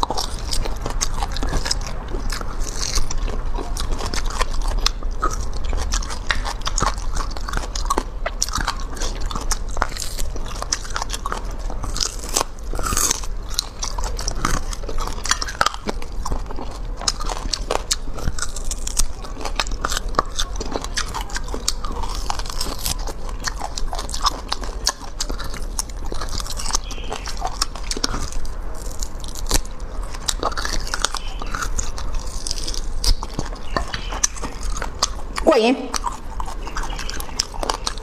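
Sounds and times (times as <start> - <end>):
bone crunching: 0.0 - 38.0
person chewing on bone: 0.0 - 38.0.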